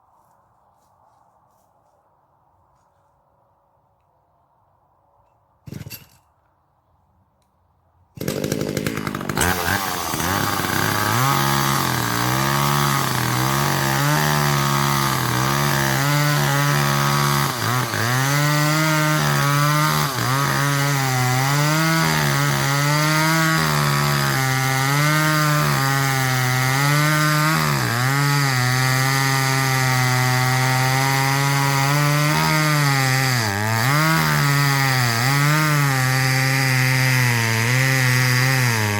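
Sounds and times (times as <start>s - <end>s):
chainsaw cutting wood: 5.6s - 6.3s, 8.1s - 38.9s.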